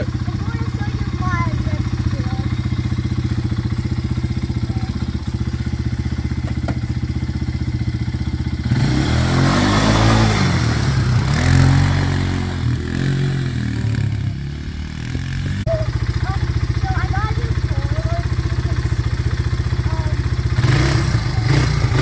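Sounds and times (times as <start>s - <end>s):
atv engine idling and revving: 0.0s - 22.0s.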